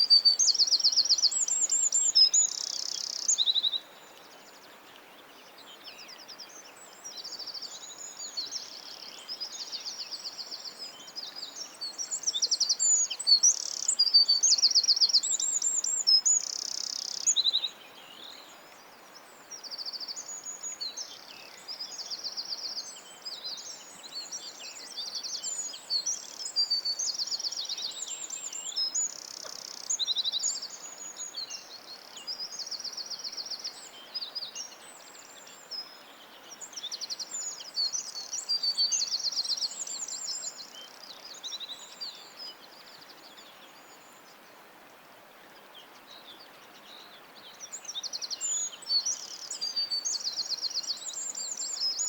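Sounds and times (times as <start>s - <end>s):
songbirds singing trills: 0.0s - 44.4s, 45.5s - 52.0s
faint steady hiss: 0.0s - 52.0s.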